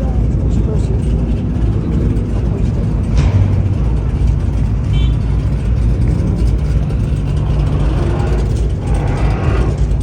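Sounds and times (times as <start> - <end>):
car engine humming: 0.0 - 10.0.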